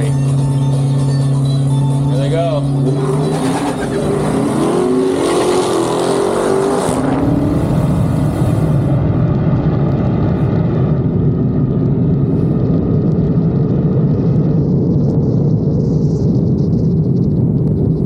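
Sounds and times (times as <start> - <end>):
racing car engines running hard: 0.0 - 18.0
steady low rumble: 0.0 - 18.0.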